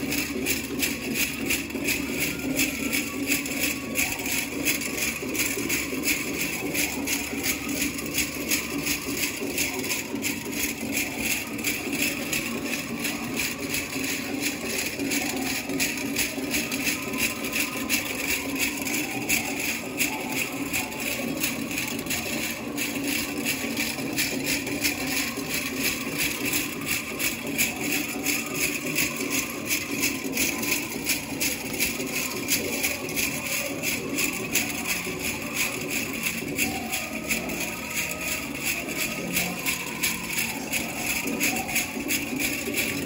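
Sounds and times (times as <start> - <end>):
drum song with quick beat: 0.0 - 43.0
metal cones jingling: 0.0 - 43.0.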